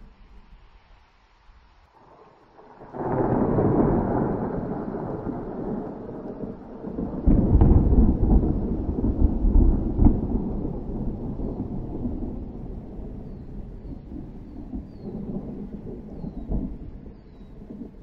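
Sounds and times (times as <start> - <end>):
thunder rumbling: 2.0 - 18.0
thunder cracks: 2.6 - 18.0.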